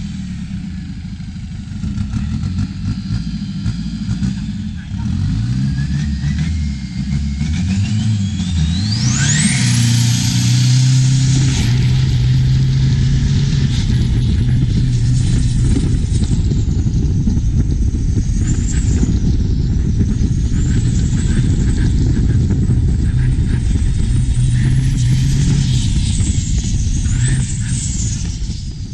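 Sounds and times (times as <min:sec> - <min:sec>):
boat diesel engine running: 0:00.0 - 0:28.9.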